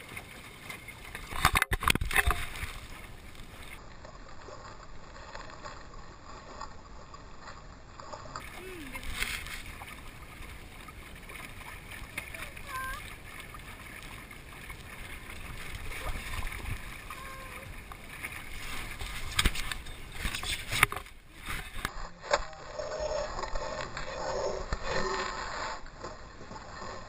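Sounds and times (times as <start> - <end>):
water splashing along hull: 0.0 - 27.0.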